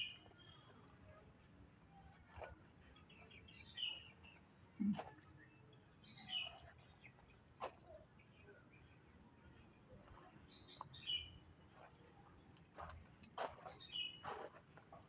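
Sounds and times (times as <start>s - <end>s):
faint outdoor background: 0.0s - 15.0s.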